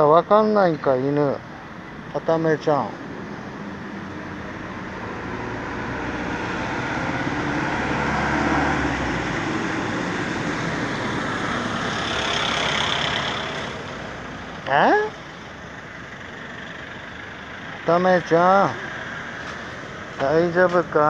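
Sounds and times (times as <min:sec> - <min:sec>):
vehicle engine and tyre noise: 0:00.0 - 0:21.0.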